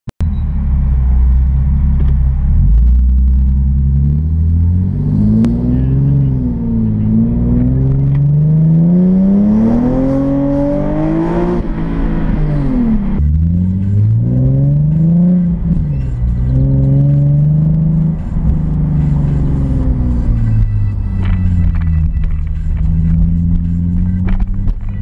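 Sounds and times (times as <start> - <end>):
car engine droning and accelerating: 0.2 - 25.0.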